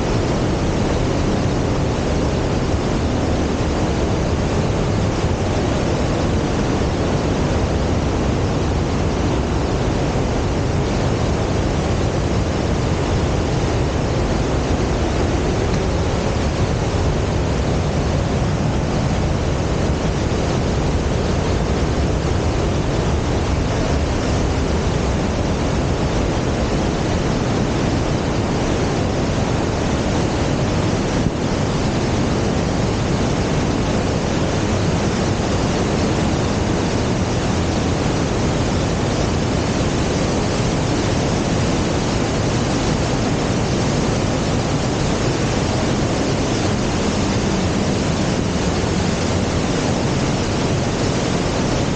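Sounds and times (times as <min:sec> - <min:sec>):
creek rushing over boulders: 0:00.0 - 0:51.9.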